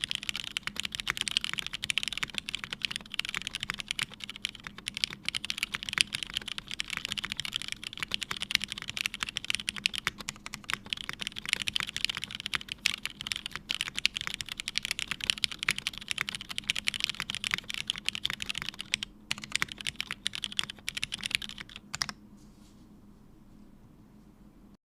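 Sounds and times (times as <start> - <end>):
mechanical keyboard typing: 0.0 - 22.2.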